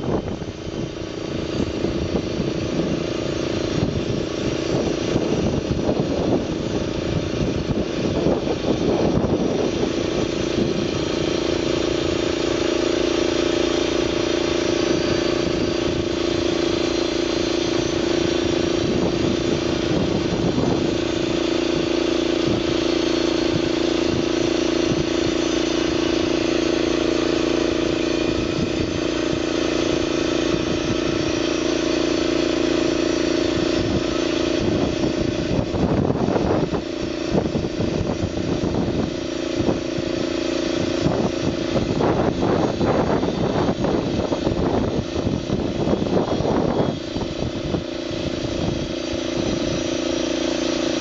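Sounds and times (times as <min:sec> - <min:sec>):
band saw blade sawing timber: 0:00.0 - 0:51.0
small petrol engine running: 0:00.0 - 0:51.0.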